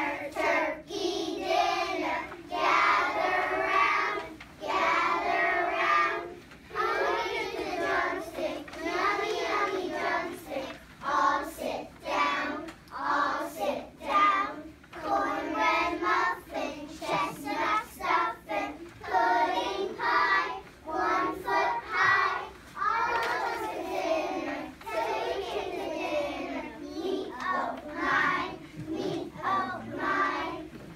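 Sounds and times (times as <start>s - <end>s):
children singing in unison: 0.0s - 30.9s.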